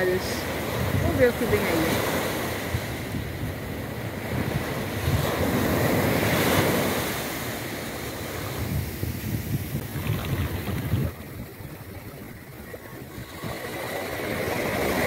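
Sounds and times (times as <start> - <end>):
surf waves washing up beach: 0.0 - 15.0
wind rumble on microphone: 0.0 - 15.0.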